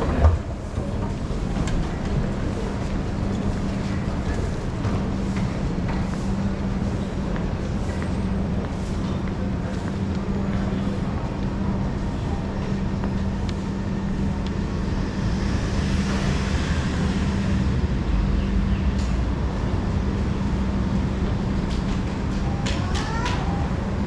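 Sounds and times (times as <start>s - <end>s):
train electrical hum: 0.0s - 24.0s
wheels rumbling on track: 0.0s - 24.0s.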